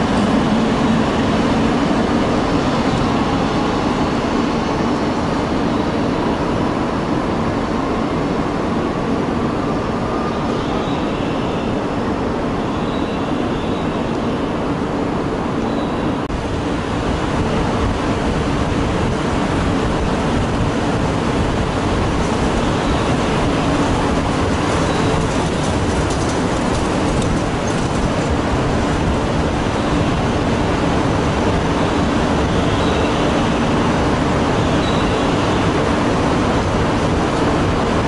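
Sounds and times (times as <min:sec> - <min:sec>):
train rumbling and humming: 0:00.0 - 0:38.0.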